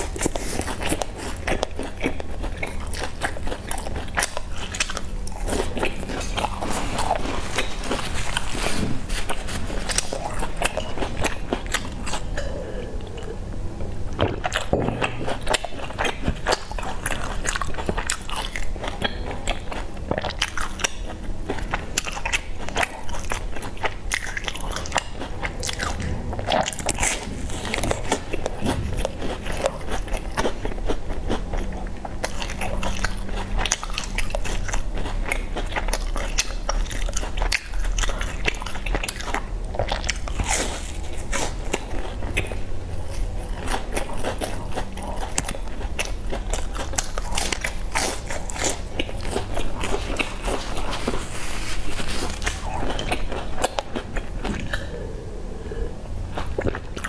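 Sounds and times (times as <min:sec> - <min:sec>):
person crunching pastries: 0:00.0 - 0:13.4, 0:14.1 - 0:55.2.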